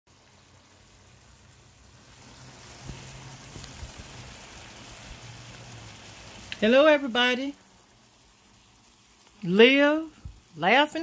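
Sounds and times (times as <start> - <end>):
steaks and vegetables sizzling: 0.1 - 11.0.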